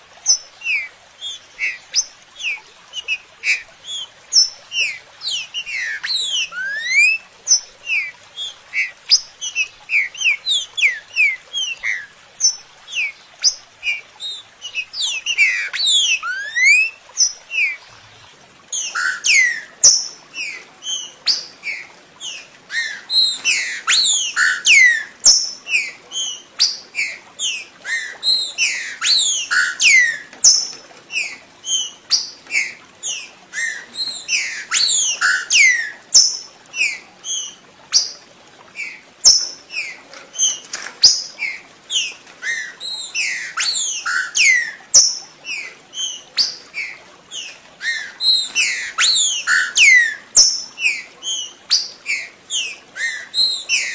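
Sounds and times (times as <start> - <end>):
bird whistled song: 0.2 - 17.8, 18.7 - 38.2, 38.8 - 53.9.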